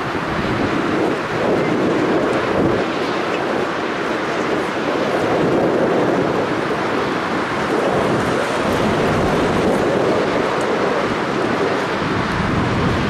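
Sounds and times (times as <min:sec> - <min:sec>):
distant jet engines rushing: 0:00.0 - 0:13.0.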